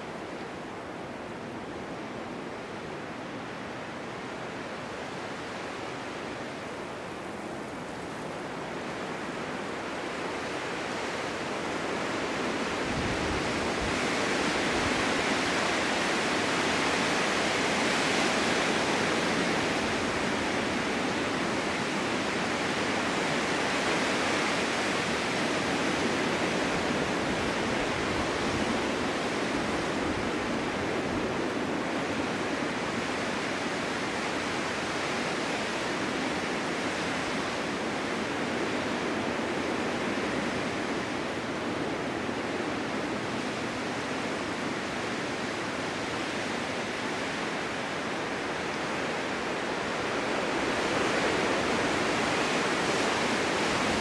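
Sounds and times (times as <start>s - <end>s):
snowstorm wind blowing: 0.0s - 54.0s.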